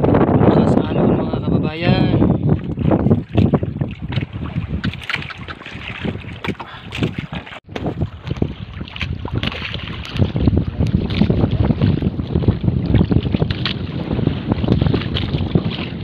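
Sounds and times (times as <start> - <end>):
wind buffeting microphone: 0.0 - 16.0
water sloshing around boat: 1.5 - 16.0.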